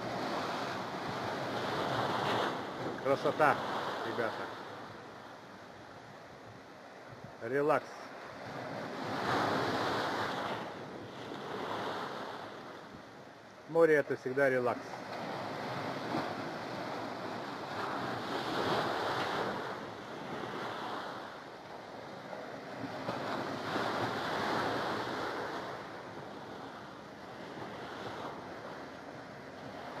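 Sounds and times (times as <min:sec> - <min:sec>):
sea surf breaking on beach: 0:00.0 - 0:05.3, 0:06.9 - 0:13.0, 0:13.6 - 0:30.0.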